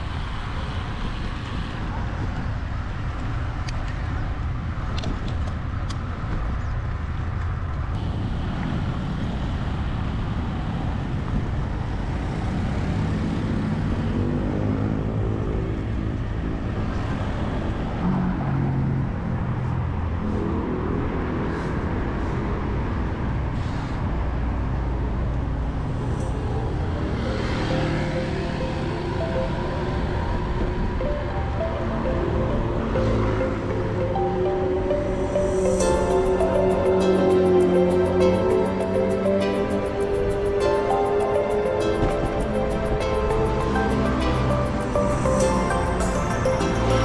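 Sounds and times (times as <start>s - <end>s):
low rumble of wind and road noise: 0.0s - 47.0s
road traffic: 0.0s - 47.0s
vehicle engine droning close by: 0.0s - 47.0s.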